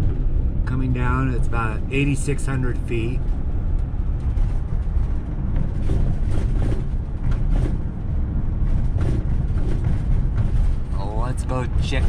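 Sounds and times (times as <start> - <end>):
van engine and tyre rumble: 0.0 - 12.0.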